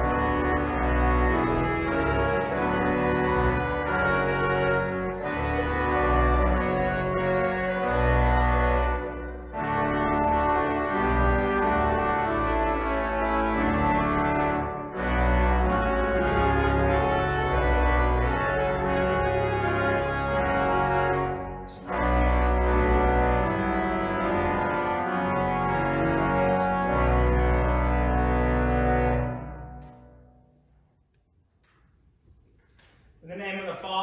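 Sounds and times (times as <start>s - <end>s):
deep organ pedal bass: 0.0s - 30.2s
church organ chords: 0.0s - 30.8s.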